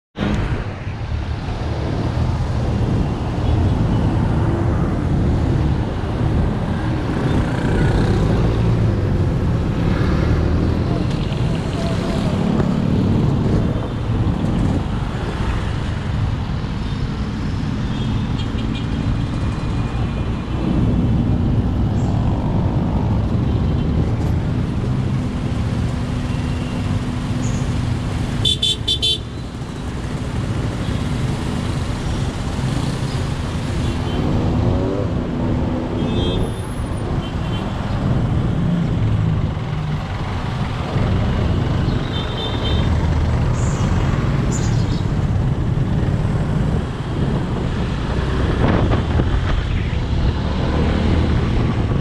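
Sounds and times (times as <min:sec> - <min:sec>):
traffic engines and road noise: 0:00.1 - 0:52.0.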